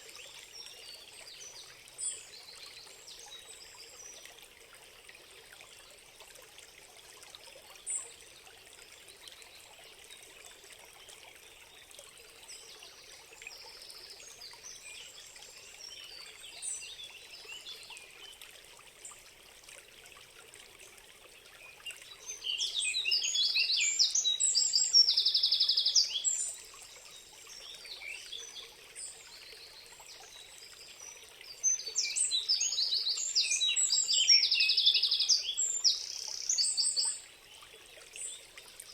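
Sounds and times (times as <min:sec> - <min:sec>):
trickle of running water: 0:00.0 - 0:38.9.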